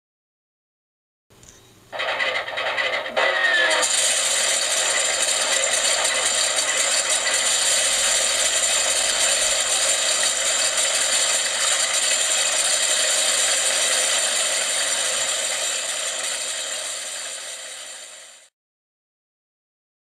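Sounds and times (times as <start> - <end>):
simulated aircraft engine sound: 1.9 - 18.5.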